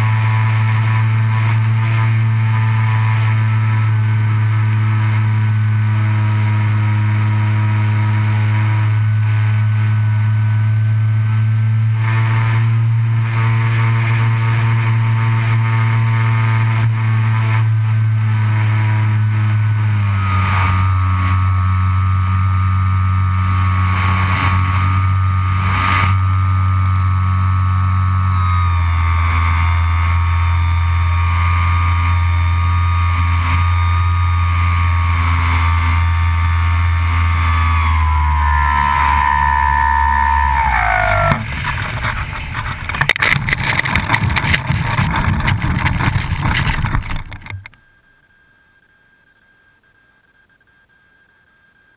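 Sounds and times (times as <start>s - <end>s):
model plane motor droning: 0.0s - 47.8s.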